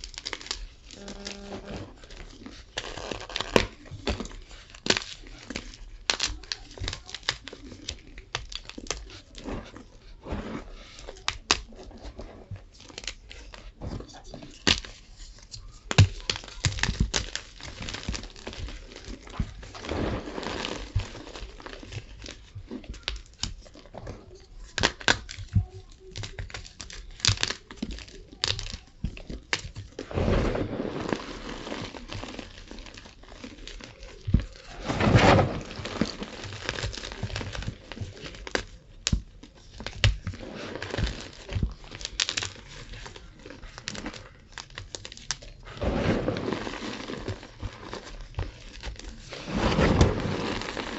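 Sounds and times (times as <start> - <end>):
chalk crunching: 0.0 - 50.9.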